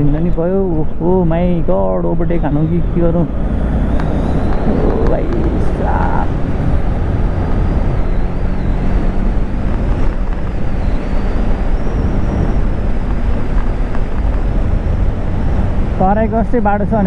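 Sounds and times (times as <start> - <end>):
road and wind rumble: 0.0 - 17.0.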